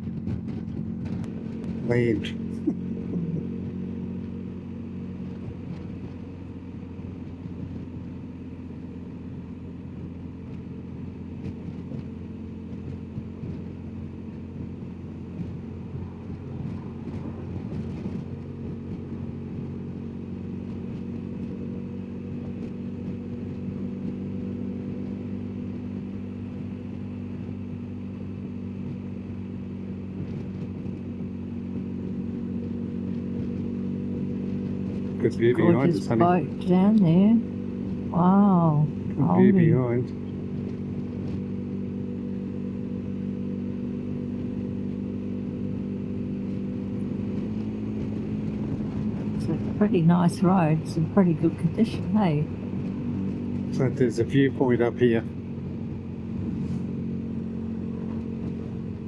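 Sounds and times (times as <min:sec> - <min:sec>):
motorcycle engine droning: 0:00.0 - 0:59.0.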